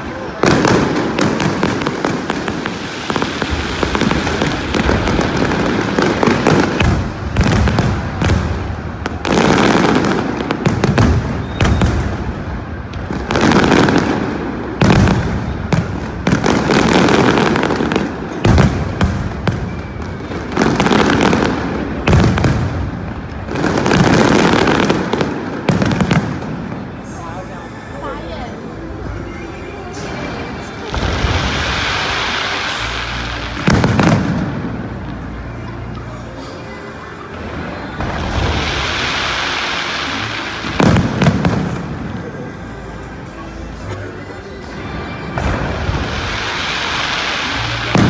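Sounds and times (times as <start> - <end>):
fireworks bursting and crackling: 0.0 - 48.0.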